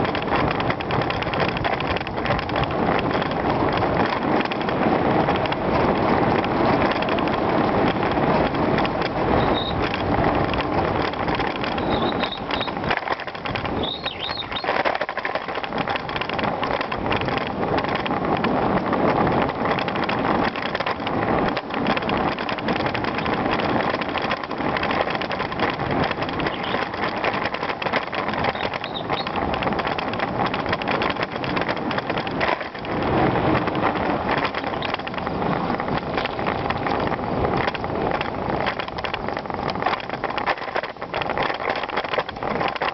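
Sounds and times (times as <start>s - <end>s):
bicycle tyres on rough ground: 0.0s - 42.9s
bike knocking and rattling: 0.0s - 42.9s.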